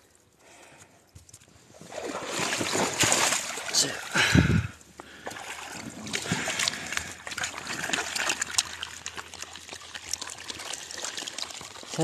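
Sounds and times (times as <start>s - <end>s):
water splashing and trickling: 1.3s - 12.0s.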